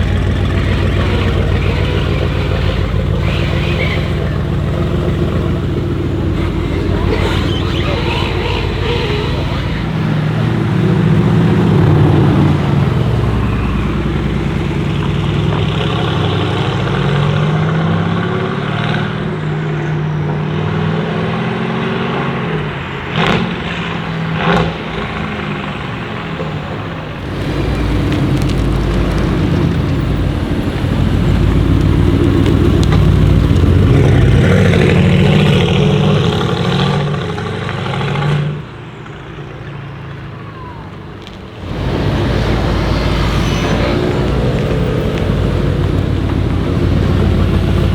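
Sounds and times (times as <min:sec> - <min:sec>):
car engine revving: 0:00.0 - 0:47.9
exhaust cracks: 0:00.0 - 0:47.9.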